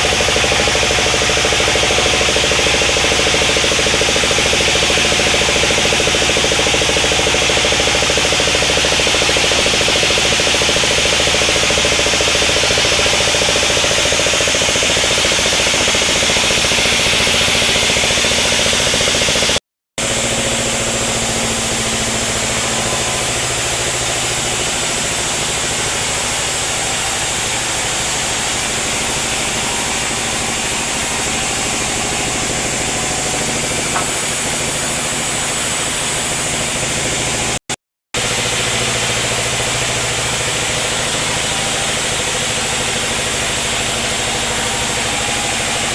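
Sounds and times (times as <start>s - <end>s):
engine hum: 0.0s - 37.6s
log saw running: 0.0s - 45.9s.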